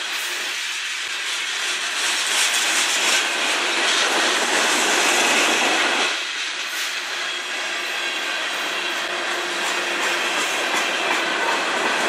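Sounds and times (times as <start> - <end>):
steel wheels rushing on rail: 0.0 - 12.0.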